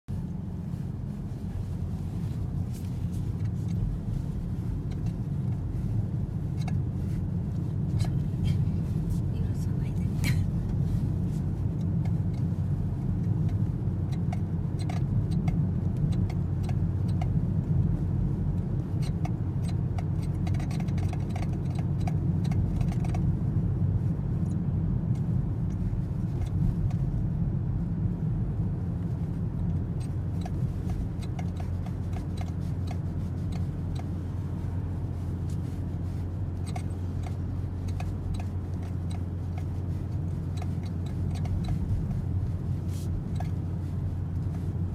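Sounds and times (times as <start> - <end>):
road and engine rumble: 0.0 - 44.9.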